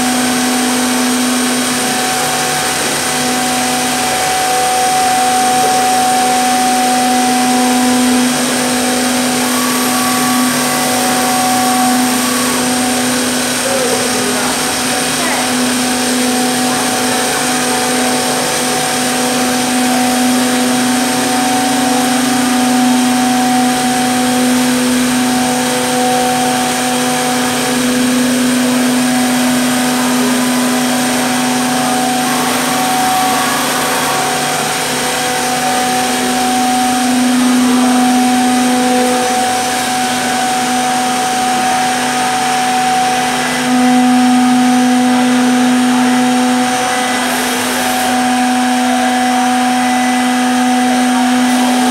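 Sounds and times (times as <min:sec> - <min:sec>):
mortising machine spindles whining: 0:00.0 - 0:51.9.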